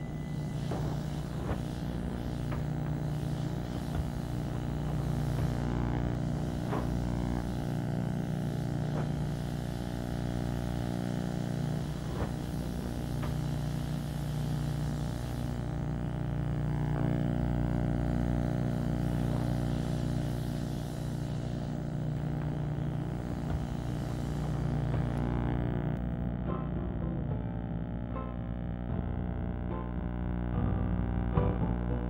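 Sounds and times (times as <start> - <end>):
tumble dryer hum and rumble: 0.0 - 32.0.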